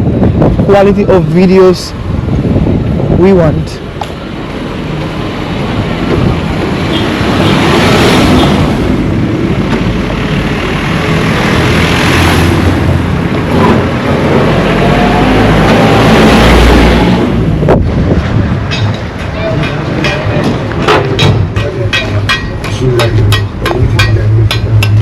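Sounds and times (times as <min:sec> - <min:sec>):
vehicles passing close by: 0:00.0 - 0:25.0.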